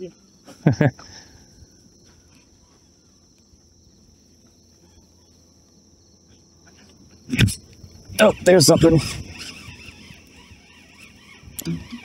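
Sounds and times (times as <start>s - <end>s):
high-pitched insect chirring: 0.0s - 12.0s.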